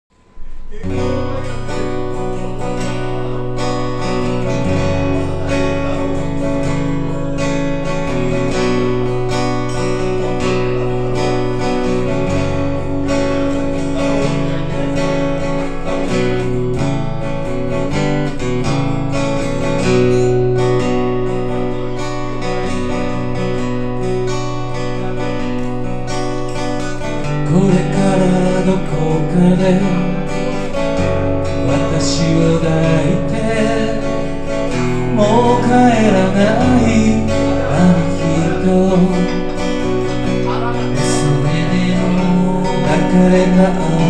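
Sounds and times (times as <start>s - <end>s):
acoustic guitar strumming: 0.1s - 44.0s.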